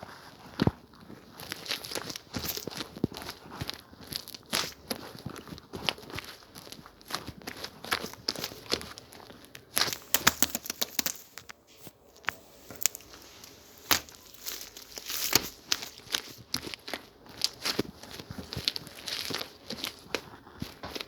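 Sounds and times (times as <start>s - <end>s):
slime popping and crackling: 0.0s - 21.0s.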